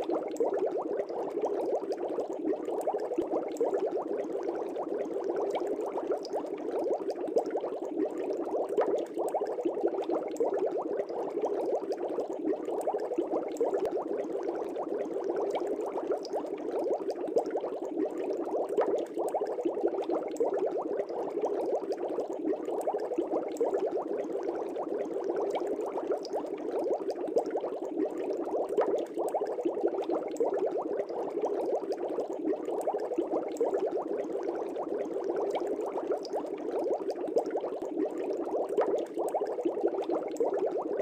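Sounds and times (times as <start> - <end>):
fish tank air bubbles: 0.0 - 41.0.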